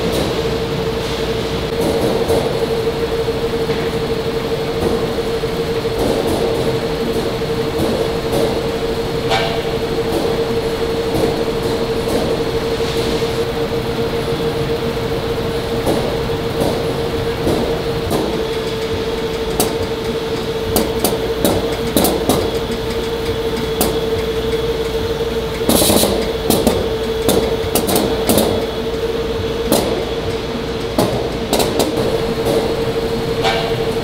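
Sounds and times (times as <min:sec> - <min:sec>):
conveyor machinery humming: 0:00.0 - 0:34.0
machinery clicks and knocks: 0:01.7 - 0:34.0.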